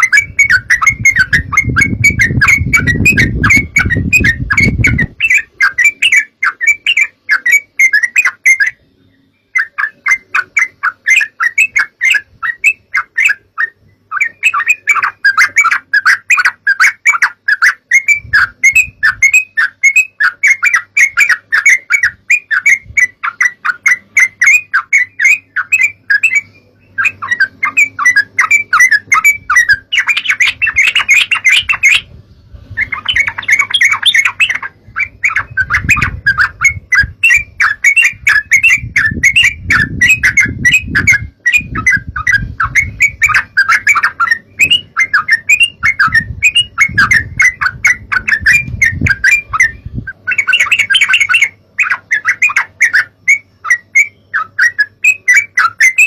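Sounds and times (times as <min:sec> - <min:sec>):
bulbul bubbly chirping song: 0:00.0 - 0:56.0.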